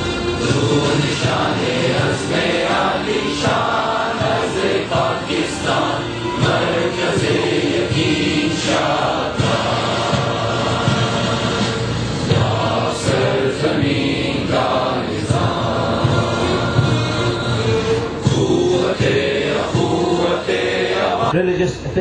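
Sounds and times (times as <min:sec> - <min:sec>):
choir singing anthem over loudspeaker: 0:00.0 - 0:21.4.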